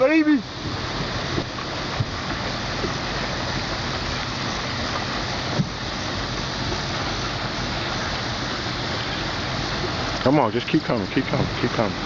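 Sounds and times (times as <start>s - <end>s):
river rushing: 0.0s - 12.0s
low hum: 0.4s - 12.0s.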